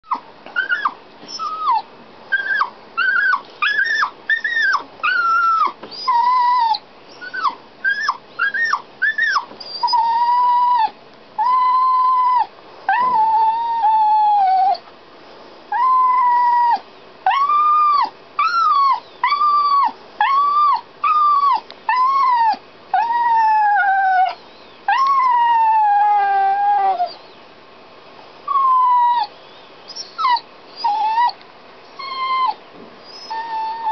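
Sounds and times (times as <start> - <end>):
dog whining: 0.0 - 14.9, 15.7 - 27.4, 28.5 - 31.4, 32.0 - 33.9.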